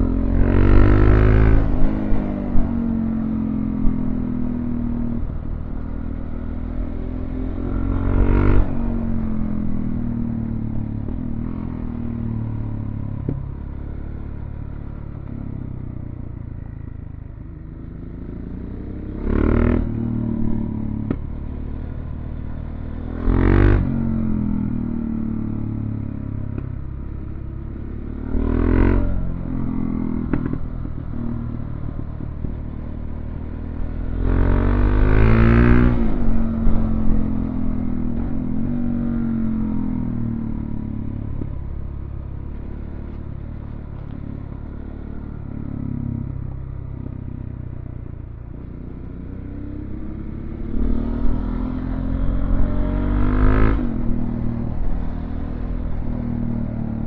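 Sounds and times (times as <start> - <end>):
motorcycle engine revving: 0.0 - 57.0
road and wind noise: 0.0 - 57.0.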